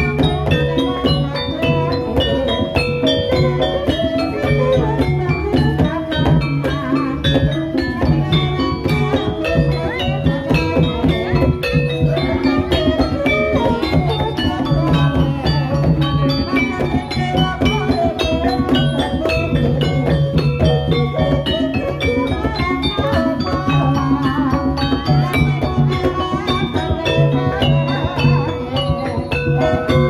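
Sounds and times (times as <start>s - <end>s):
drums: 0.0s - 30.0s
gamelan metal keyed instruments: 0.0s - 30.0s.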